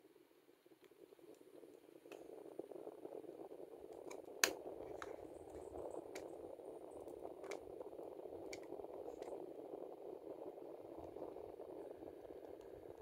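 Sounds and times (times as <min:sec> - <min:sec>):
air conditioner airflow hiss: 0:00.0 - 0:13.0.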